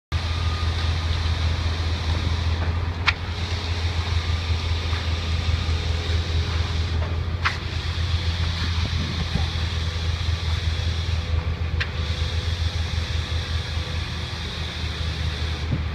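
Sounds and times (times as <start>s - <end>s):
truck engines humming: 0.1s - 15.9s.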